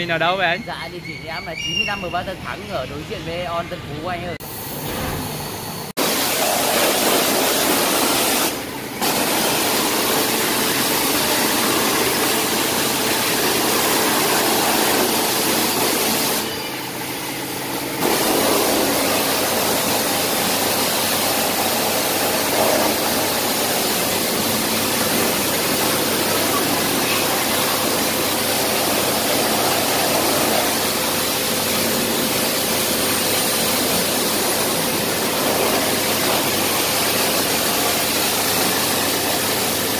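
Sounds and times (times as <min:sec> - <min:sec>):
pressure washer spraying engine: 0:04.4 - 0:39.9.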